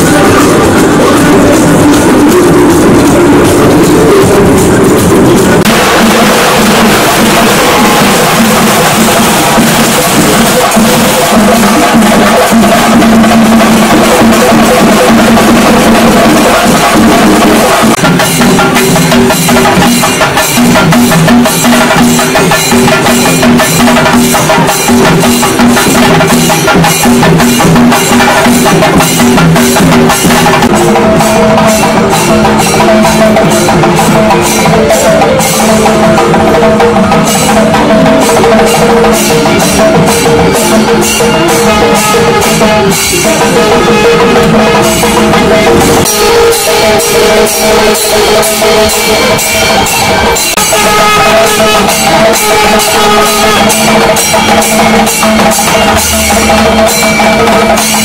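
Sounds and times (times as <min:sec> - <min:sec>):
sharp percussion strikes: 0:00.0 - 0:58.0.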